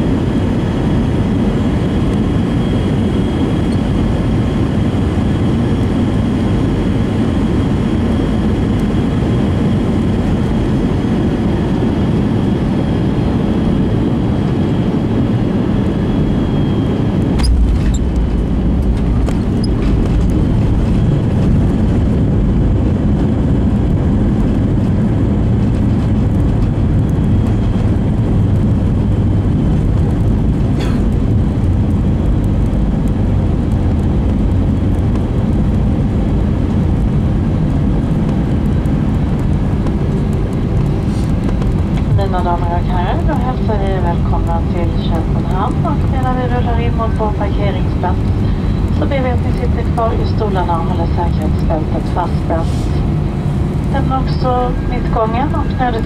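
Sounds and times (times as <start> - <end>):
airplane cabin noise: 0.0 - 56.0
deep runway rumble: 0.0 - 56.0
jet engines reverse thrust: 0.0 - 56.0.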